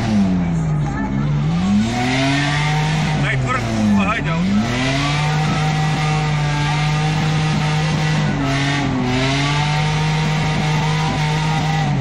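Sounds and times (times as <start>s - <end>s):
engine revving high: 0.0s - 12.0s.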